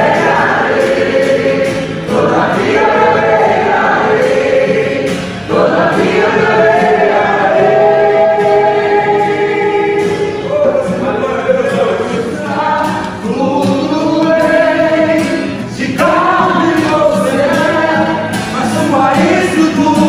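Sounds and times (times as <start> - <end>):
gospel choir singing: 0.0 - 20.0.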